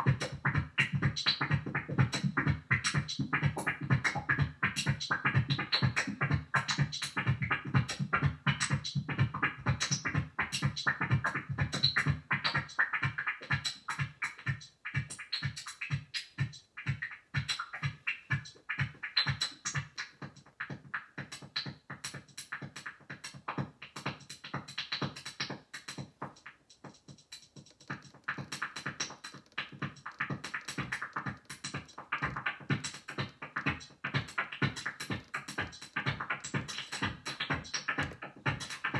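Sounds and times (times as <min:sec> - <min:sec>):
drum machine electronic beat: 0:00.0 - 0:38.9.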